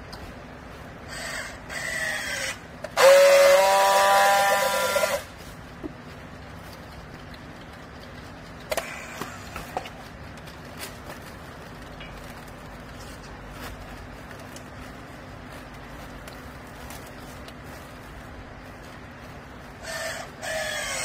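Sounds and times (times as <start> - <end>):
hydraulic power unit hum: 0.0 - 21.0.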